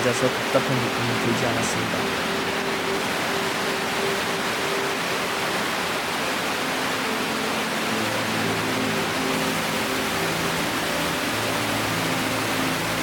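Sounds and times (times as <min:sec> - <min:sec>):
rushing water in a cave: 0:00.0 - 0:13.0.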